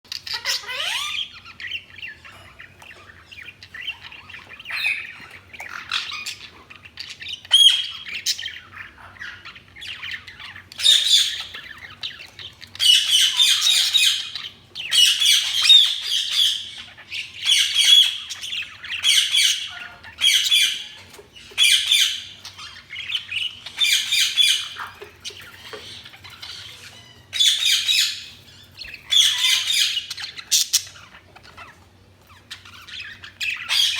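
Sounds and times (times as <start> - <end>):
budgies chattering and chirping: 0.1 - 33.9
scratchy squawking calls: 0.2 - 2.2, 2.9 - 33.9.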